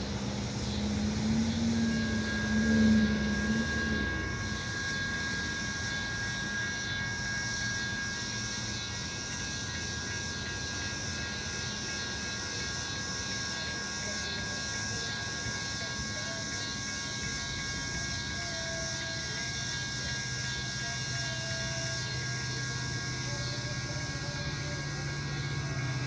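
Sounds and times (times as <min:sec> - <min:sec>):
diesel locomotive drone: 0:00.0 - 0:26.0
faint high whine: 0:00.0 - 0:26.0.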